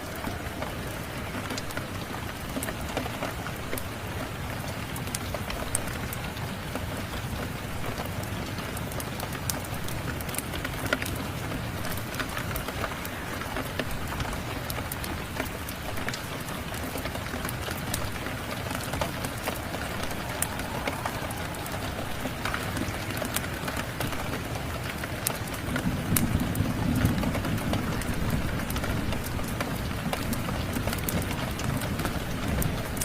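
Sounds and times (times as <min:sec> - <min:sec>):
steady rain: 0:00.0 - 0:33.0
wood fire crackling: 0:00.0 - 0:33.0.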